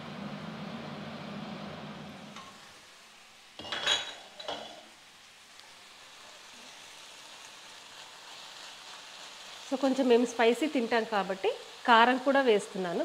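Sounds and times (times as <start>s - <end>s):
curry sizzling: 0.1s - 13.0s.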